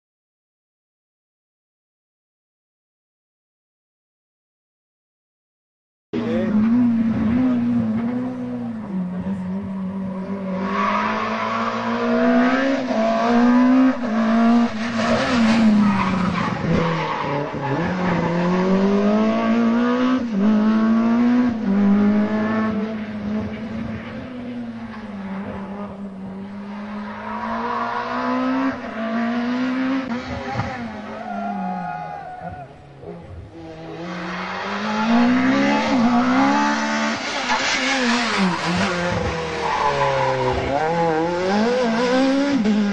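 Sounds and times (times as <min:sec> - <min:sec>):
rally car engines revving: 0:06.2 - 0:42.9.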